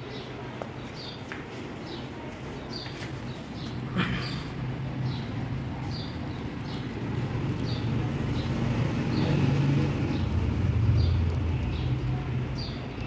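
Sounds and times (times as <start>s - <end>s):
small birds chirping faintly: 0.0s - 13.0s
traffic rumble: 0.0s - 13.0s.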